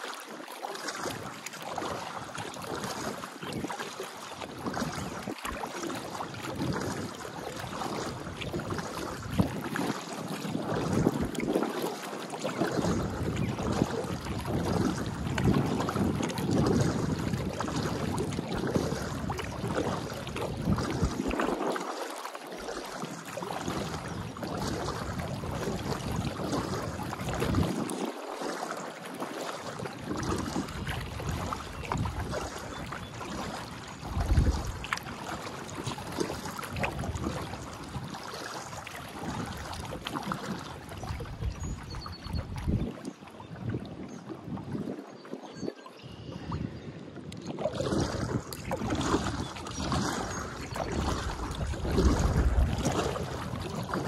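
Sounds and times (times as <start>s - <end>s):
water splashing around kayak: 0.0s - 54.0s
wind rumbling on microphone: 4.4s - 21.9s, 22.6s - 28.2s, 29.6s - 54.0s.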